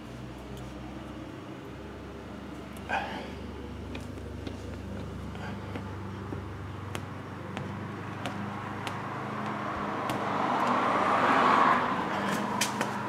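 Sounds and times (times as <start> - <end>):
steady low hum: 0.0 - 13.0
vehicle passing by: 0.0 - 13.0.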